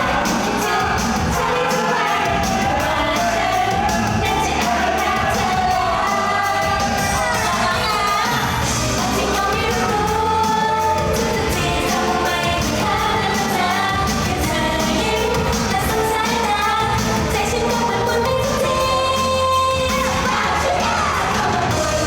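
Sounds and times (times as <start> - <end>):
backing track with bass and beat: 0.0 - 22.0
woman singing pop song: 0.0 - 22.0.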